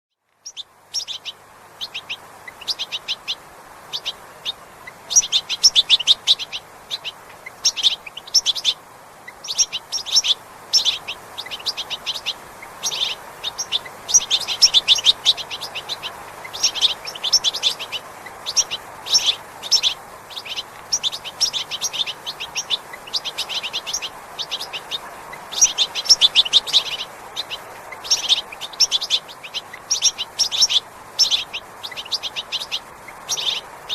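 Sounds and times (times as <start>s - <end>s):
background hiss: 0.1s - 33.9s
small birds twittering: 0.2s - 33.9s.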